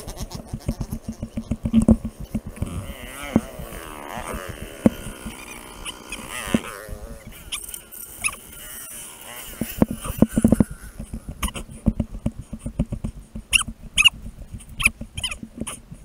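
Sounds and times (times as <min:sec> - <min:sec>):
dirt bike engines revving: 0:00.0 - 0:16.0
bikes knocking over rocks: 0:00.3 - 0:13.7.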